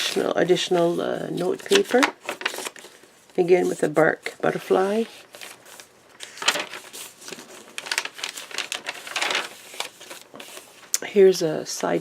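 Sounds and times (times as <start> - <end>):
paper rustling and crinkling: 0.0 - 10.9.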